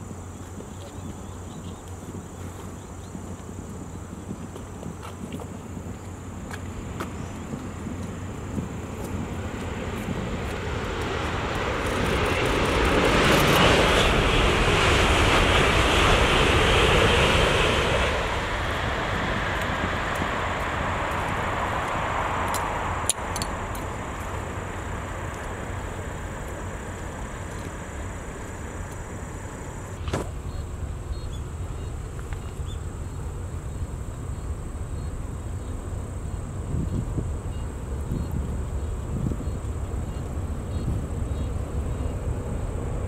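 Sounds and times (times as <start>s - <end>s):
train passing at speed: 3.1s - 43.0s.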